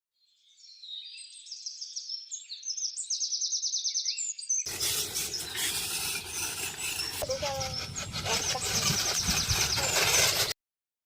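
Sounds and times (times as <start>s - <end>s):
birds chirping and trilling: 0.2s - 10.5s.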